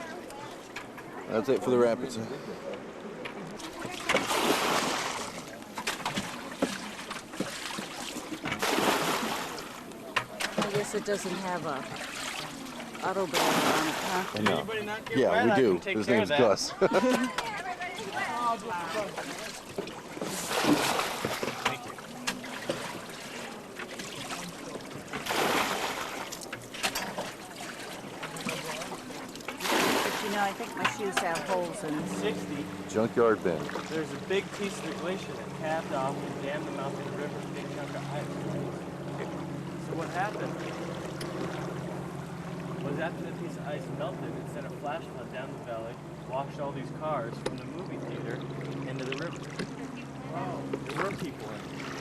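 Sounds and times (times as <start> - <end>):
water splashing around raft: 3.0 - 15.8, 16.7 - 43.5, 47.4 - 52.0.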